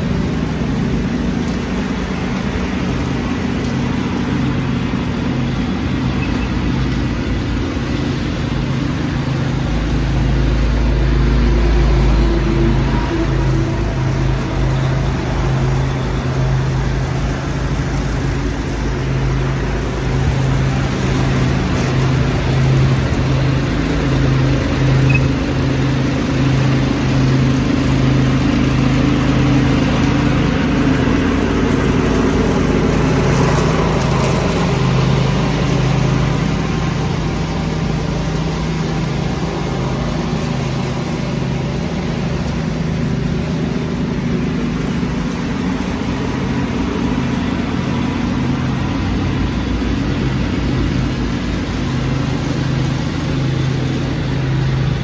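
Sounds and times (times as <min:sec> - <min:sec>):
lawn tractor engine running: 0:00.0 - 0:55.0
leaf vacuum air rushing: 0:00.0 - 0:55.0.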